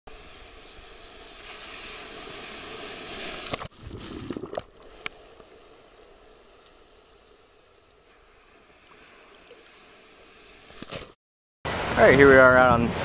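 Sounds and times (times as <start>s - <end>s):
underwater gurgling and sloshing: 0.1s - 11.1s
waves washing and hissing: 0.1s - 13.0s.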